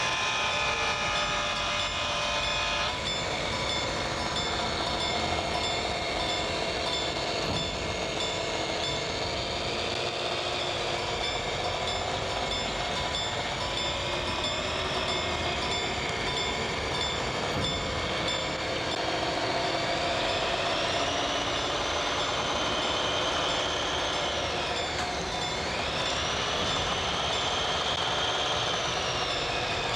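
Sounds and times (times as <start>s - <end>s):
rising whine: 0.0s - 29.9s
train rumbling: 0.0s - 29.9s.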